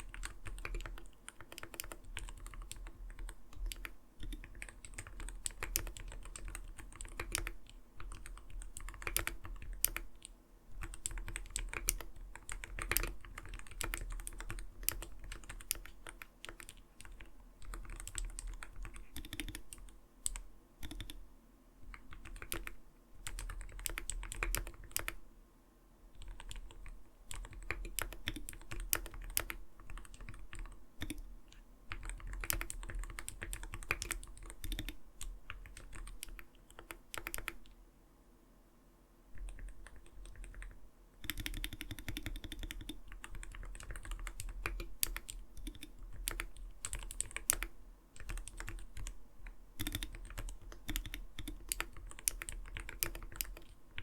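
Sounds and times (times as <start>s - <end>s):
mechanical keyboard typing: 0.0s - 21.2s, 21.8s - 25.2s, 26.2s - 37.7s, 39.4s - 54.0s.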